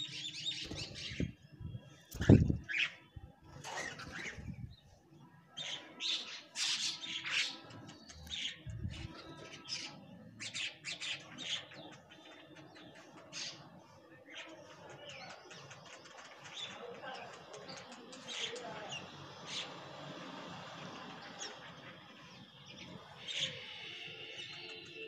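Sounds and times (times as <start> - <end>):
birds chirping calls: 0.0 - 25.0.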